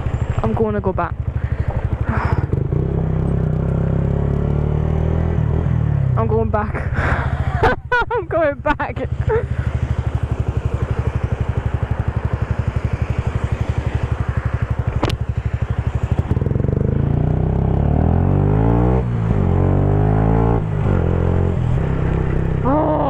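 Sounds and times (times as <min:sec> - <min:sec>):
motorcycle engine puttering: 0:00.0 - 0:18.2, 0:20.2 - 0:23.0.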